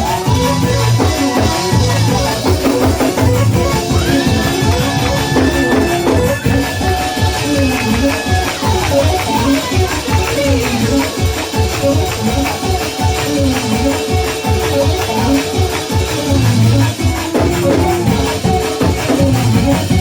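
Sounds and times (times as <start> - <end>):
praise band playing: 0.0 - 20.0.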